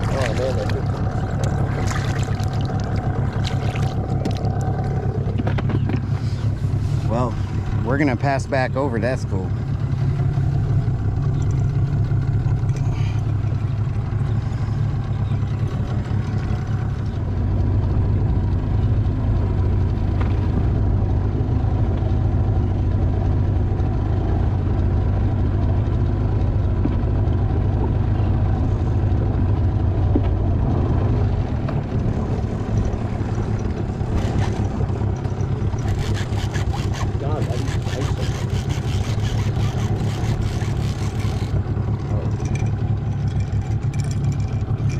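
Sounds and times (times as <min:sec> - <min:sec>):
outboard motor droning: 0:00.0 - 0:44.9.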